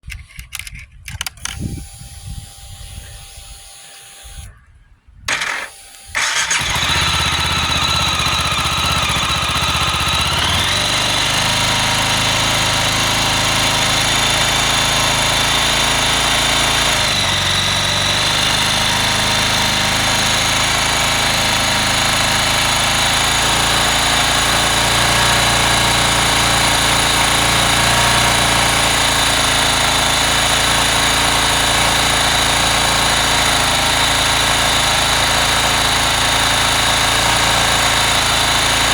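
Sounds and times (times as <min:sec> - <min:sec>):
motorcycle engine cranking: 0:00.0 - 0:04.5, 0:05.3 - 0:38.9
motorcycle engine idling: 0:06.1 - 0:38.9.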